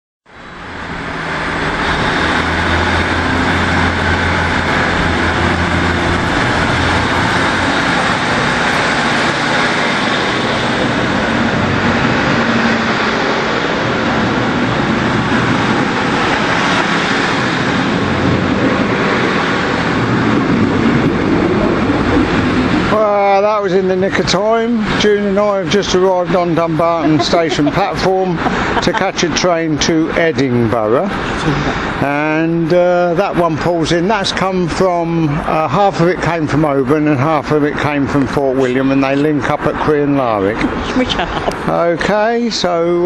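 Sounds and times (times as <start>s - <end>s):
train rolling on rails: 0.3s - 35.7s
train engine drone: 0.3s - 43.0s.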